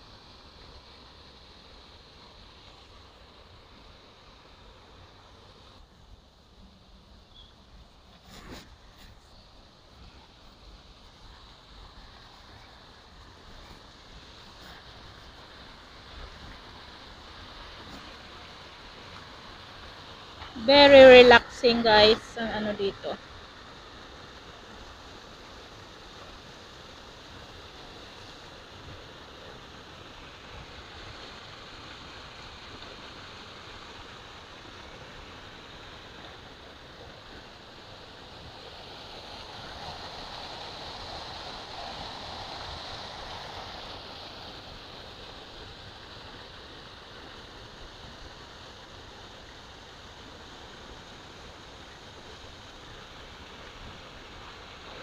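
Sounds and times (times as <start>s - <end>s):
flowing stream water: 0.0s - 55.0s.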